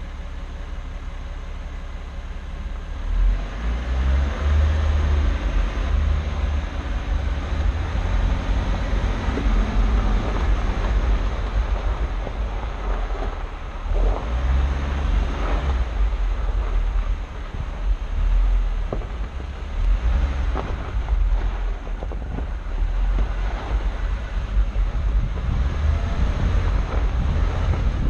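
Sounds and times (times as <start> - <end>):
off-road vehicle engine: 0.0 - 28.0
gusty wind rumble: 3.2 - 28.0
tyres on loose dirt: 4.1 - 28.0.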